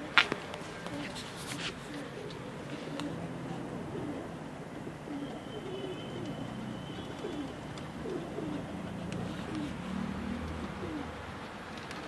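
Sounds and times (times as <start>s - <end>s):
pigeons cooing: 0.8s - 11.3s.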